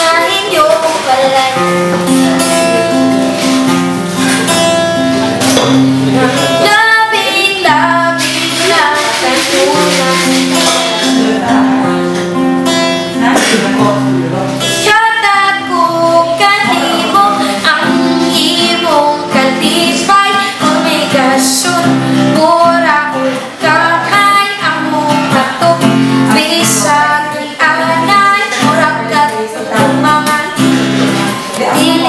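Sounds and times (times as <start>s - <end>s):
woman singing: 0.0s - 2.0s, 6.2s - 32.0s
acoustic guitar: 0.0s - 32.0s.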